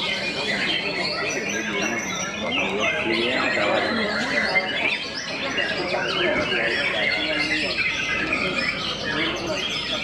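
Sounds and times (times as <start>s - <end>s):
people's voices: 0.0s - 10.0s
songbirds singing chorus: 0.0s - 10.0s.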